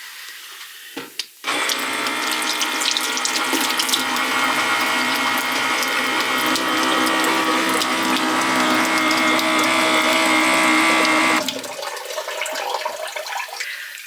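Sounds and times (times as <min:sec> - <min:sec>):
water pump whirring: 0:01.4 - 0:13.3
water splashing into sink: 0:01.5 - 0:14.0.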